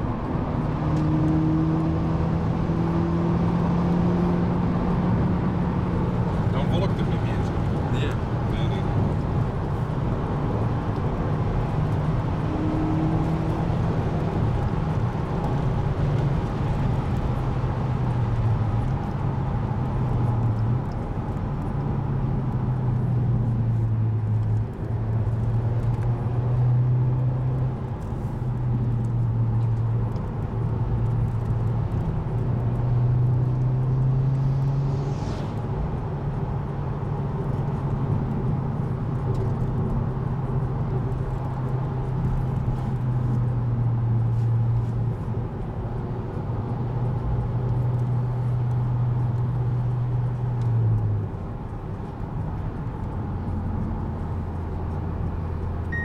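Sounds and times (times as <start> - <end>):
car engine drone: 0.0 - 56.0
tyre and road noise: 0.0 - 56.0.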